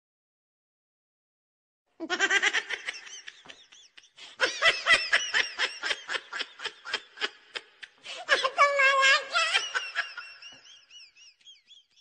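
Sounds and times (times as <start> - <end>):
laughter in bursts: 2.0 - 12.0.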